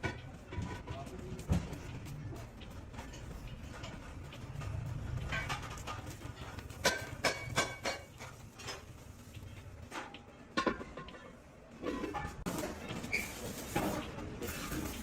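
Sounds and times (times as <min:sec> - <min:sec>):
metal clanks and knocks: 0:00.0 - 0:13.1.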